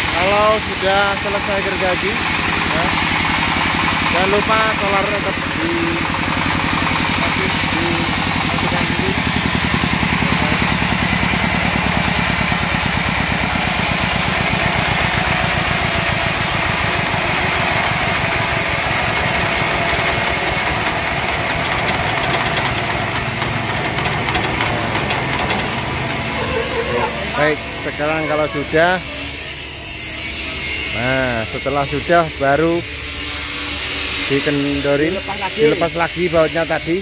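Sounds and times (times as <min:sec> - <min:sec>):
diesel engine chugging: 0:00.0 - 0:37.0.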